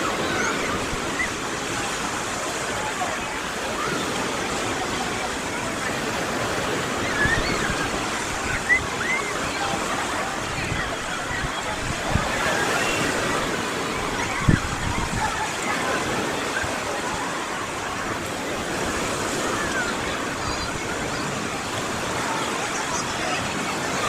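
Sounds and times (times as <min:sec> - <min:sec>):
small waves washing ashore: 0:00.0 - 0:24.0.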